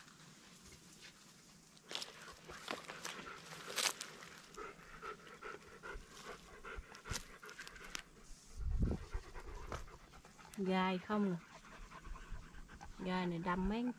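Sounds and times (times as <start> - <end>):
dog panting: 2.5 - 13.9.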